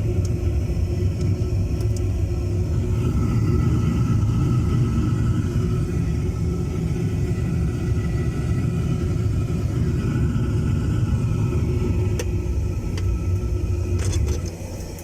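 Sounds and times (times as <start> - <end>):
boiler burner rumble: 0.0 - 15.0.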